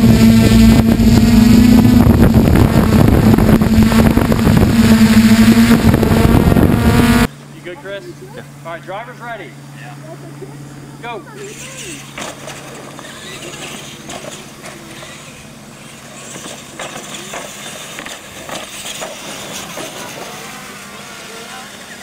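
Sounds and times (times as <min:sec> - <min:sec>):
electric toy trucks motors: 0:00.0 - 0:08.8, 0:11.0 - 0:22.0.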